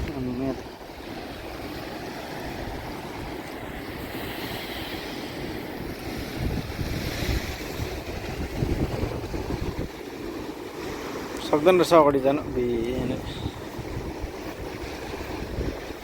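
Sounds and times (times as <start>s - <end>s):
sea surf washing in: 0.0s - 16.0s
wind buffeting microphone: 0.0s - 16.0s.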